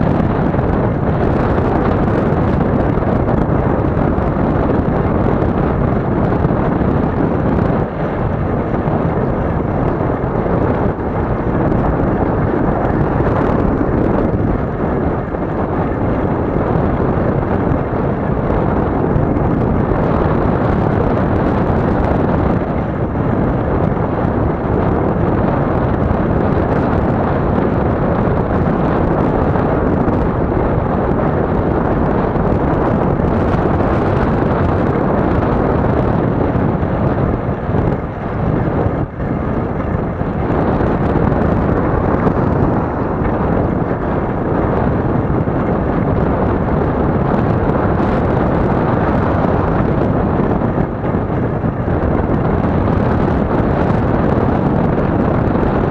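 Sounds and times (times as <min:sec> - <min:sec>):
wind rumble on microphone: 0:00.0 - 0:55.9.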